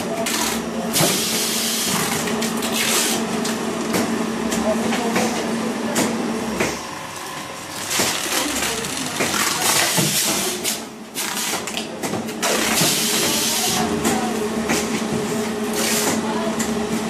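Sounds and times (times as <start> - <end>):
machine hum: 0.1 - 17.0.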